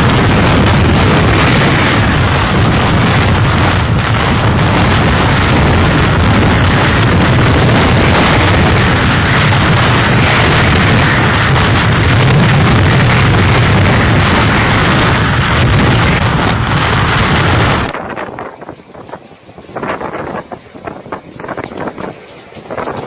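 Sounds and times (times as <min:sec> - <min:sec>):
strong wind rushing: 0:00.0 - 0:23.0
wind buffeting microphone: 0:00.0 - 0:23.0.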